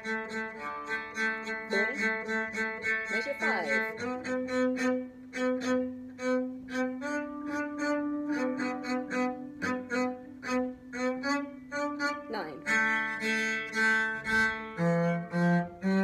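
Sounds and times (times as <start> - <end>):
cello playing short notes: 0.0 - 16.0.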